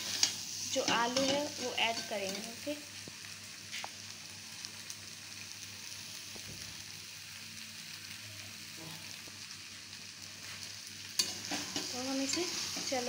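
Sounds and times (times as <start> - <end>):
potatoes sizzling in a pan: 0.0 - 13.0.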